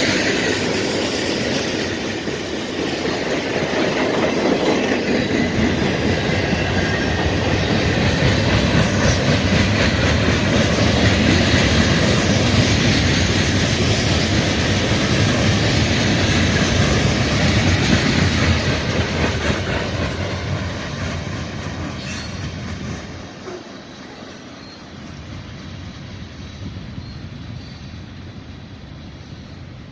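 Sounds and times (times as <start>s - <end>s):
freight train cars rolling on rails: 0.0s - 29.9s.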